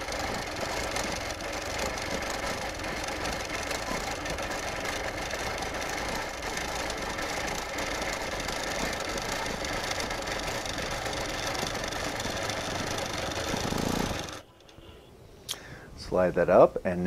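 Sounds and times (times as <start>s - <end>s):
quilting machine stitching: 0.0s - 14.4s.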